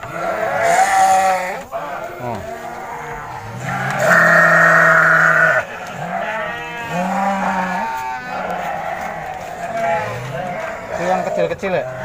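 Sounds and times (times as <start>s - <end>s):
sheep bleating: 0.0s - 12.0s.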